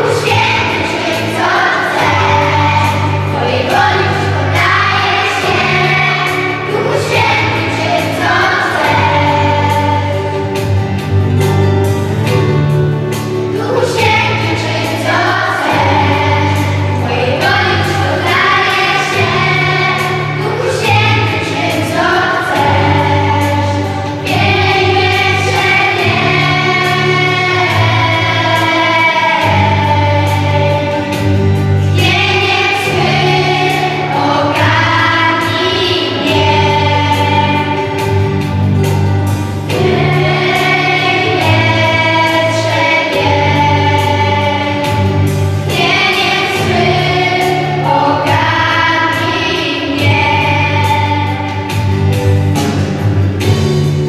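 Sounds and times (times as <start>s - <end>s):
children's choir singing: 0.0s - 54.0s
guitar accompaniment: 0.0s - 54.0s.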